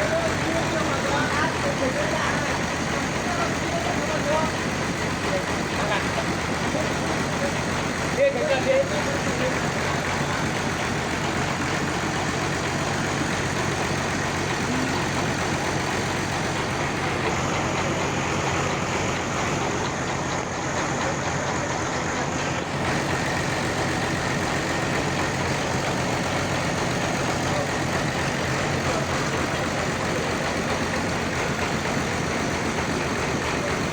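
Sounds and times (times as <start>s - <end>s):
sawmill engine running: 0.0s - 33.9s.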